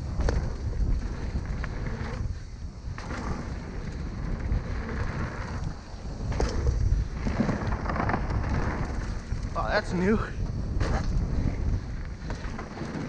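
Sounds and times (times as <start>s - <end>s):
bike rattling: 0.0s - 13.0s
bike tyres rolling on dirt: 0.0s - 13.0s
wind rumbling on microphone: 0.0s - 13.0s.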